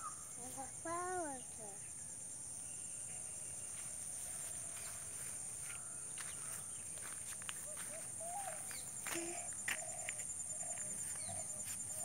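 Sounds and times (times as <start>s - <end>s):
birds chirping: 0.0s - 12.0s
insects trilling: 0.0s - 12.0s.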